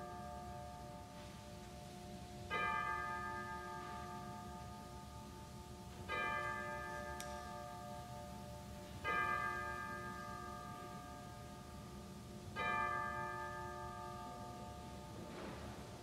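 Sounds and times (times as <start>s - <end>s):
church bell tolling: 0.0s - 16.0s.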